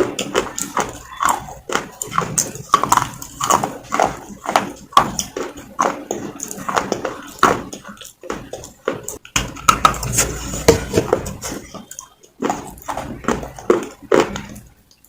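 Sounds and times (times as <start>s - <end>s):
crunching and chewing: 0.0s - 15.0s.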